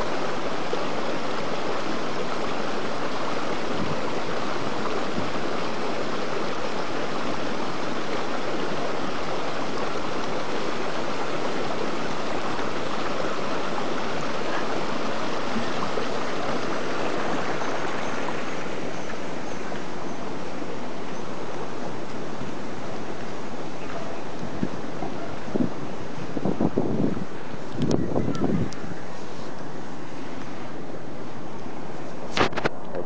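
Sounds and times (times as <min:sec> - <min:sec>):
water rushing steadily: 0:00.0 - 0:33.0.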